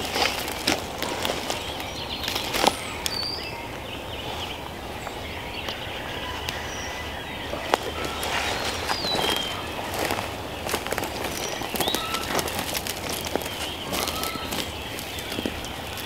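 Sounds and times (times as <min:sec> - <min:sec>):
birds chirping: 0:00.0 - 0:16.0
steady background hiss: 0:00.0 - 0:16.0.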